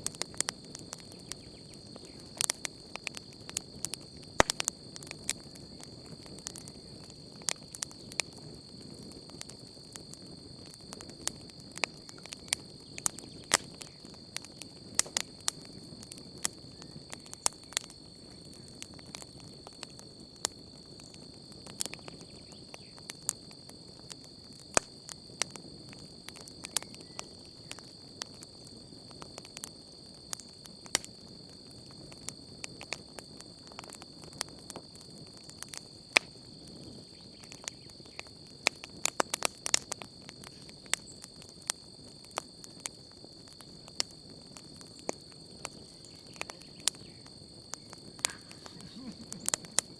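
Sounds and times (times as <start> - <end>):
campfire crackling and popping: 0.0 - 49.9
crickets chirring: 0.0 - 49.9
low hiss of flames: 0.0 - 49.9.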